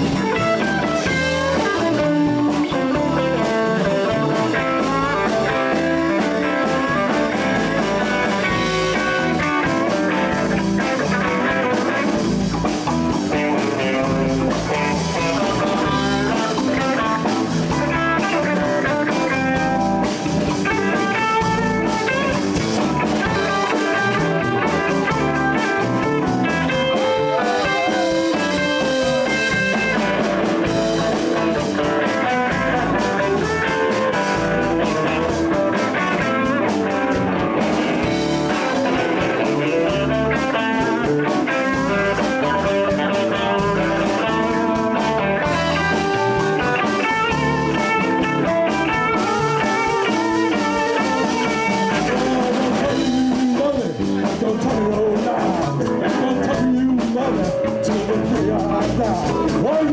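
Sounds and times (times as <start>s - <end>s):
bass: 0.0s - 59.9s
drums: 0.0s - 59.9s
electric guitar: 0.0s - 59.9s.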